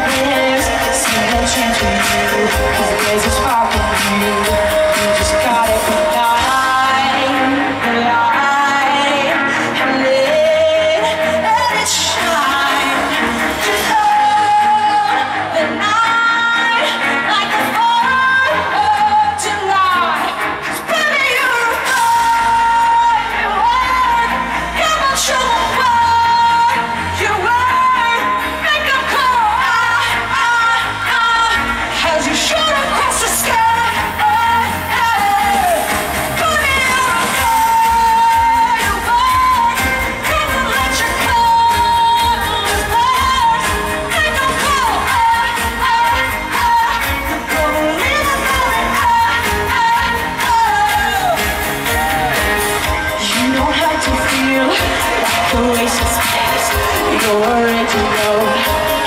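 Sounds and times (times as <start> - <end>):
full band with steady bass: 0.0 - 59.0
woman singing: 0.0 - 59.0.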